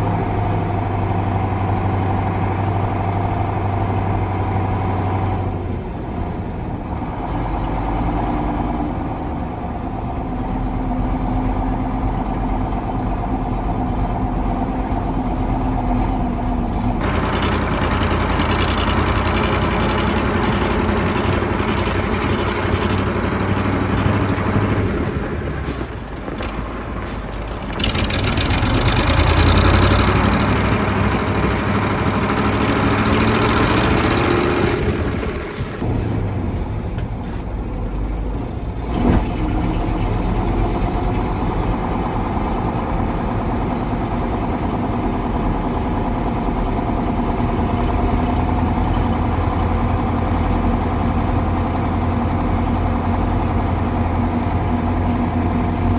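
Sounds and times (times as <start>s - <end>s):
diesel truck engine under load: 0.0s - 55.9s.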